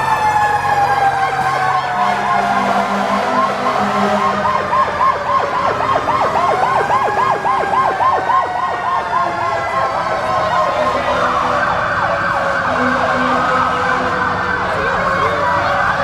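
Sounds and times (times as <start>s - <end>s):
fire engine siren yelp: 0.0s - 16.0s
wailing siren tone: 0.0s - 16.0s.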